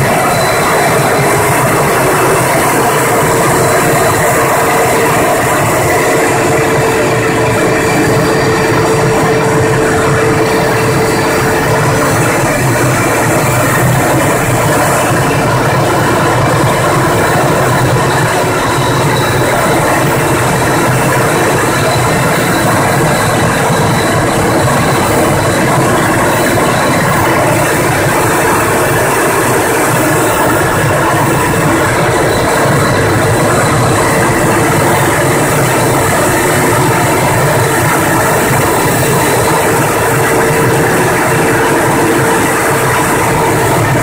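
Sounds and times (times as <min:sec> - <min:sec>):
aircraft cockpit engine noise: 0:00.0 - 0:44.0.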